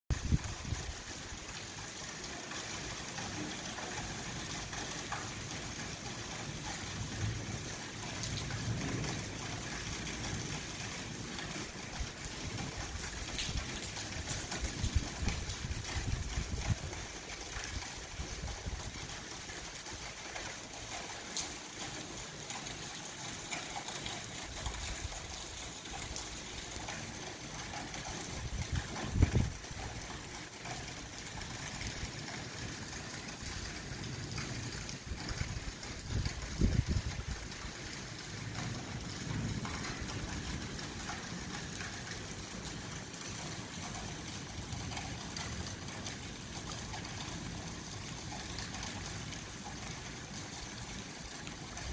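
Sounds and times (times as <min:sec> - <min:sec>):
rain falling on pavement: 0:00.1 - 0:51.9.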